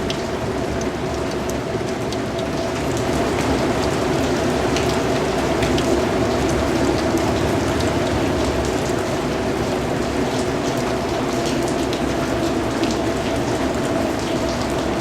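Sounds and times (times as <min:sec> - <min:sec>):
rain pattering on a surface: 0:00.0 - 0:15.0.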